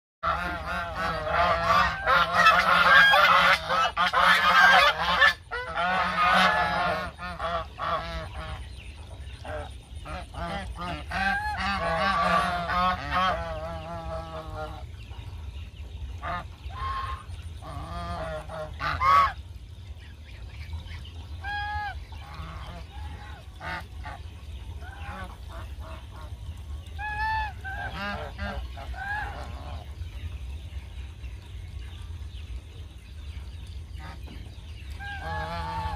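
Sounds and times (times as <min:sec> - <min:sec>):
geese honking: 0:00.2 - 0:08.8, 0:09.4 - 0:14.9, 0:16.2 - 0:19.4, 0:20.7 - 0:30.3, 0:34.0 - 0:35.9.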